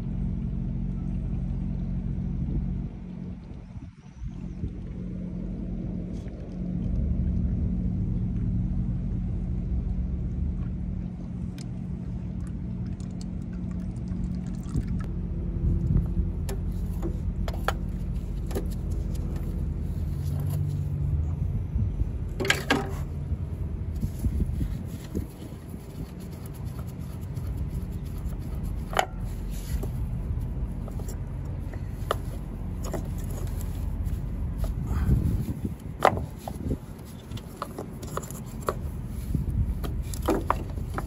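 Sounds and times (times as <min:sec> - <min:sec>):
engine idling: 0:00.0 - 0:41.0.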